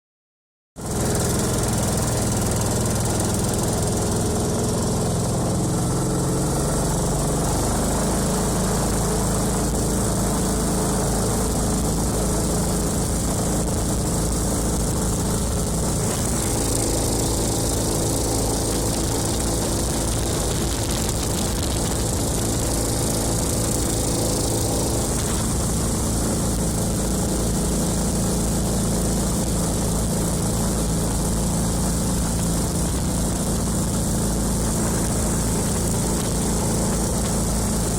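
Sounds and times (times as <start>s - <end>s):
small engine running: 0.8s - 37.9s.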